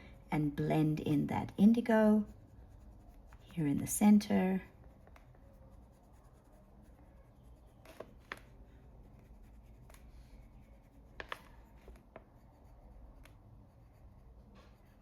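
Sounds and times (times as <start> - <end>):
pencil scratching on paper: 0.5 - 15.0.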